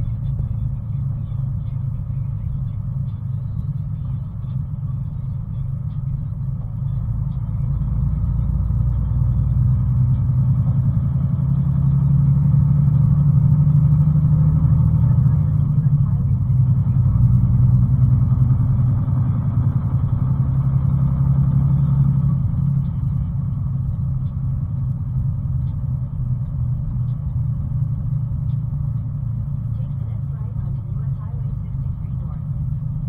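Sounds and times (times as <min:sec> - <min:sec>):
low hum: 0:00.0 - 0:33.0
vehicle engine and road rumble: 0:00.0 - 0:33.0.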